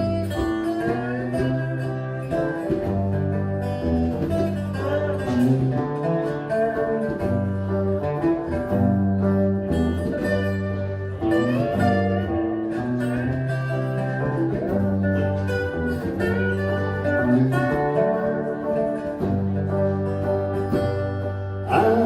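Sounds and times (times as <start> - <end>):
blues folk guitar music: 0.0 - 22.0
steady bass line: 0.0 - 22.0.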